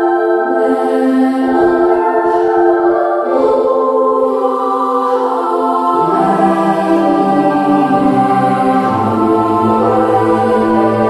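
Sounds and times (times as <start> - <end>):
choir-like sustained voices: 0.0 - 11.0.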